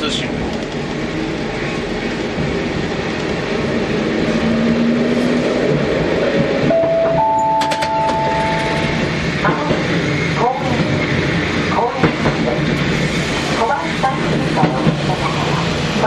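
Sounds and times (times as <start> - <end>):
tram wheels rumbling on rail: 0.0 - 16.0.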